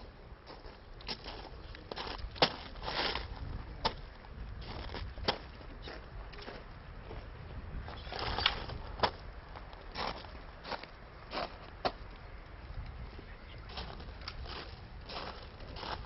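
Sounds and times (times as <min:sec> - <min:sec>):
footsteps on gravel: 0:00.4 - 0:07.3, 0:07.9 - 0:12.1, 0:13.6 - 0:16.0.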